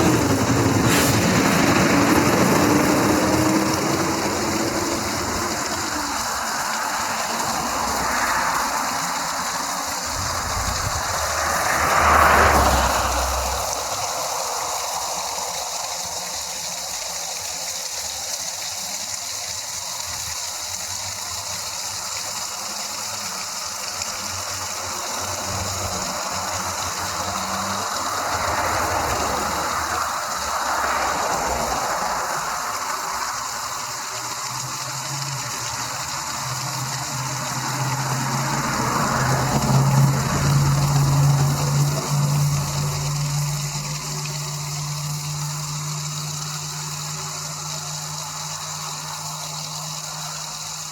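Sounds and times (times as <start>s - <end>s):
engine approaching: 0.0s - 50.9s
vehicles passing by: 0.0s - 50.9s
waterfall rushing: 0.0s - 50.9s.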